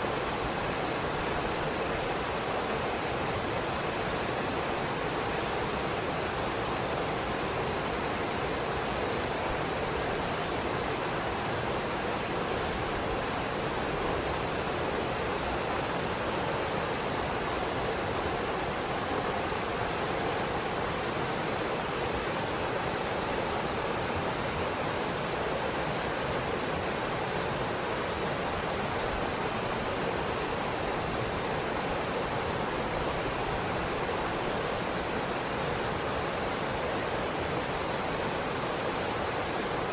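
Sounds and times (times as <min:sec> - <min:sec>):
broad hiss: 0:00.0 - 0:39.9
insect chorus drone: 0:00.0 - 0:39.9.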